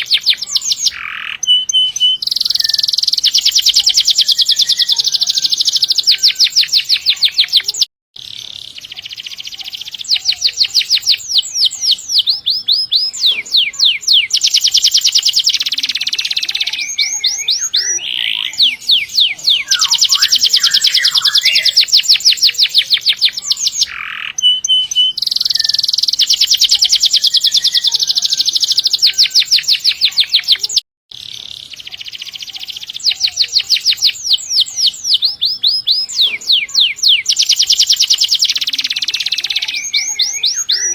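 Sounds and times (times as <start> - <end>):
canary singing in trills: 0.0 - 40.9.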